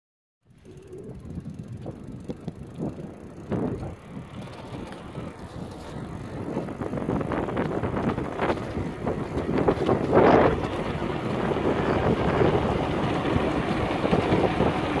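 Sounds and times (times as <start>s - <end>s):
bicycle tyre noise: 0.5s - 15.0s
wind on microphone: 0.6s - 15.0s.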